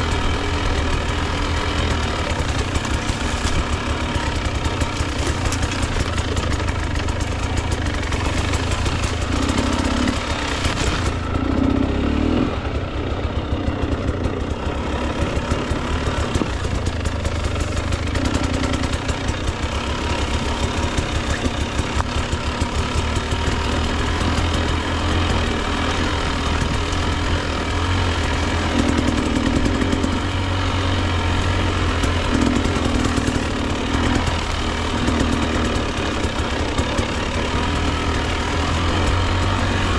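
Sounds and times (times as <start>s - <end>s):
dirt bike engine at low revs: 0.0s - 39.9s.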